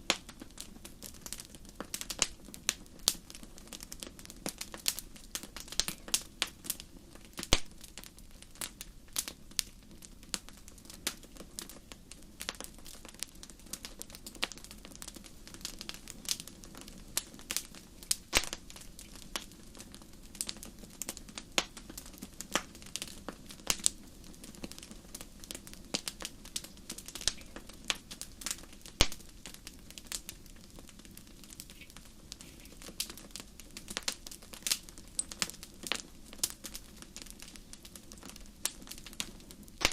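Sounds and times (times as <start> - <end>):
low rush of burning fire: 0.0 - 39.9
campfire pops and snaps: 0.1 - 39.9.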